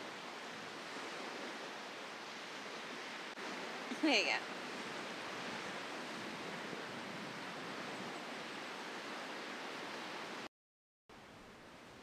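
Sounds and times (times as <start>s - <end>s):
outdoor shore ambience hiss: 0.0s - 10.5s, 11.1s - 12.0s.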